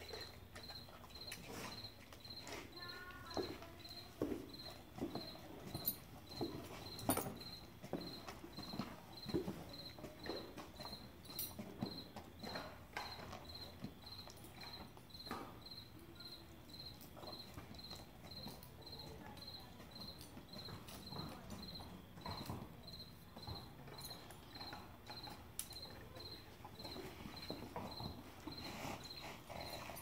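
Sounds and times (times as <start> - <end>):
cricket chirping: 0.0 - 30.0
horse tack knocks and rustles: 0.2 - 15.8, 16.9 - 30.0.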